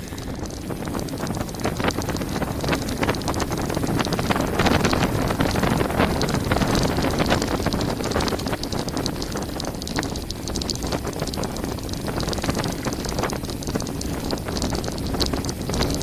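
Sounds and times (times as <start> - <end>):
bike tyres rattling on gravel: 0.0 - 16.0
wind buffeting microphone: 0.0 - 16.0.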